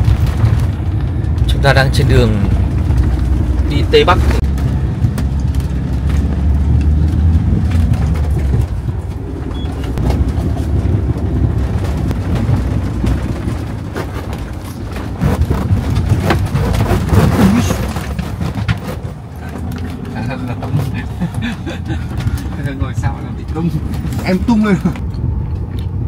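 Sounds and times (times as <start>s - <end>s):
engine and road rumble: 0.0s - 26.0s
knocks and rattles: 0.0s - 26.0s.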